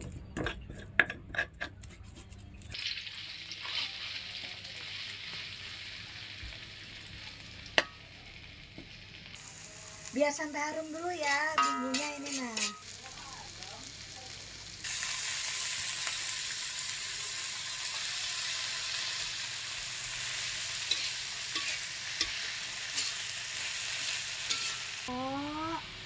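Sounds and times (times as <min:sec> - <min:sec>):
greens sizzling in hot oil: 0:02.7 - 0:26.0.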